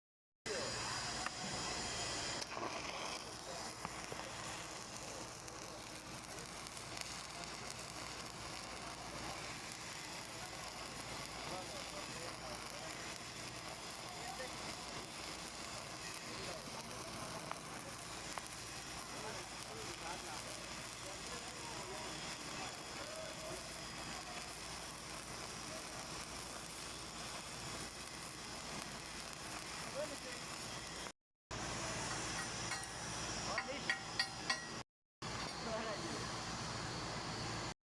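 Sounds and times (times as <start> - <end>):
welding arc hissing and clicking: 0.5 - 34.8.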